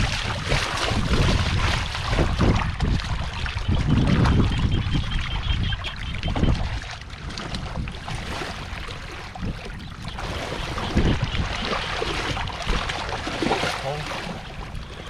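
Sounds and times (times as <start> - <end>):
splashing in shallow muddy water: 0.0 - 15.0
wind buffeting microphone: 0.0 - 15.0.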